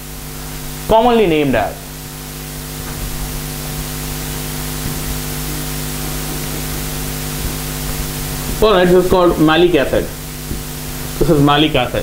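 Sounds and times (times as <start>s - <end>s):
low hum of held tones: 0.0s - 12.0s
steady hiss: 0.0s - 12.0s.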